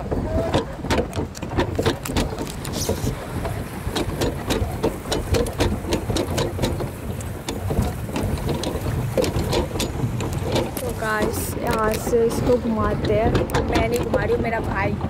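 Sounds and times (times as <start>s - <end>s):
boat splashing on water: 0.0s - 15.0s.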